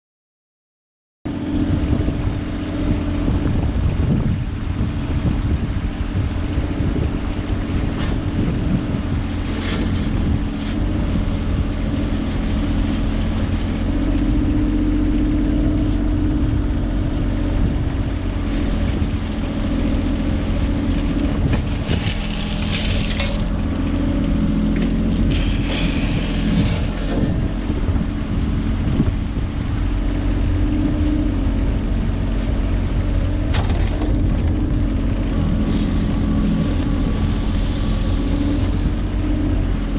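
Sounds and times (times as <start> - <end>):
engine running: 1.3 - 39.9.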